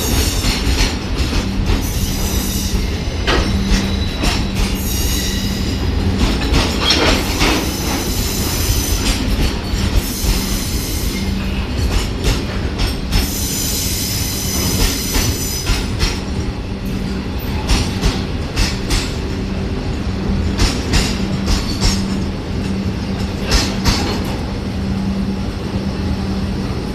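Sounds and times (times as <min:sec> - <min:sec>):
train wheels clicking over rail joints: 0:00.0 - 0:24.5.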